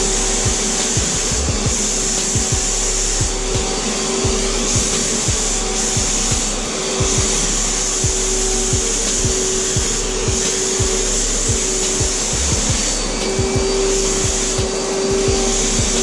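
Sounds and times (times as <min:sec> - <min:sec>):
spray gun hissing: 0:00.0 - 0:16.0
turbine whining: 0:00.0 - 0:16.0.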